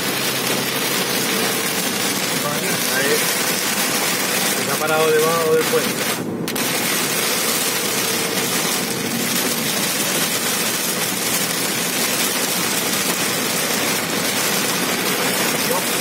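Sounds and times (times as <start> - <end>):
heavy rain on car roof: 0.0 - 16.0
tyres hissing on wet road: 0.0 - 16.0.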